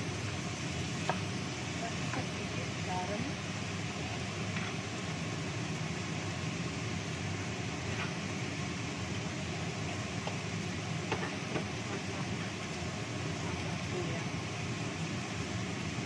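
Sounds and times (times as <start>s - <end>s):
vegetables frying in a wok: 0.0s - 16.0s.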